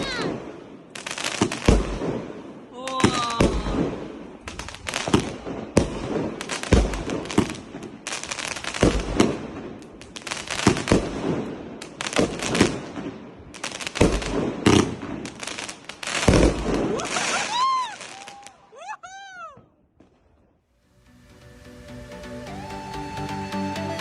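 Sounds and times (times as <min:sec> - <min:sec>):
fireworks banging and crackling: 0:00.0 - 0:18.5, 0:19.6 - 0:20.6.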